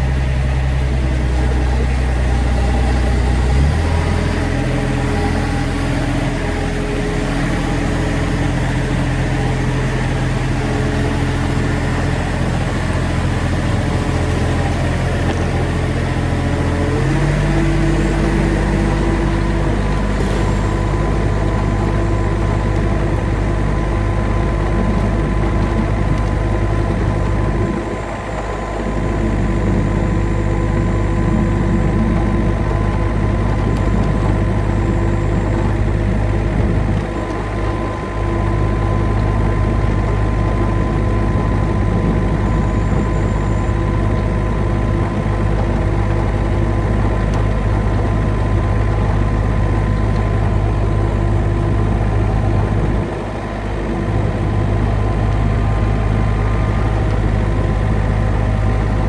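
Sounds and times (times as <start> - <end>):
excavator engine running: 0.0 - 59.0.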